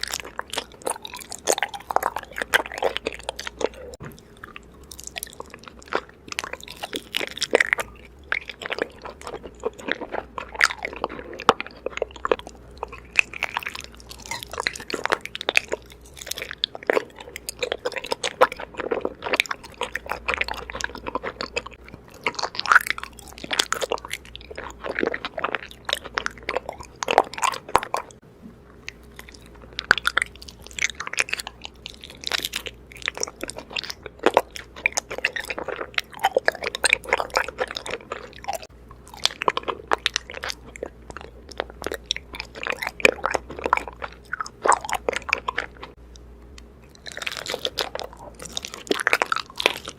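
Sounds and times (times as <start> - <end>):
honeycomb crunching when chewed: 0.0 - 49.9.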